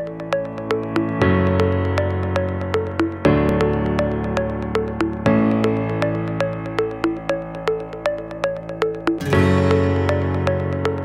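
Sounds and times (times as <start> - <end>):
plucked synthesizer notes: 0.0 - 11.0.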